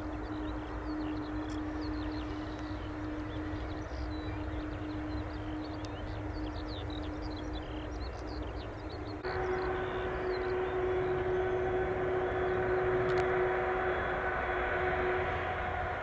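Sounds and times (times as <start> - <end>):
jet engine whine: 0.0 - 16.0
low rumble: 0.0 - 16.0.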